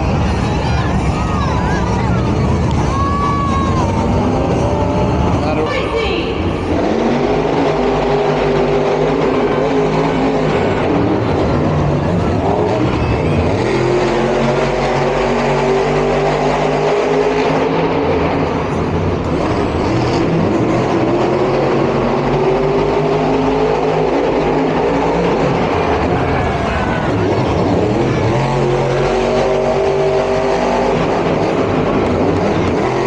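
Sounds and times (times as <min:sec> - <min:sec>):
truck engines revving: 0:00.0 - 0:33.0.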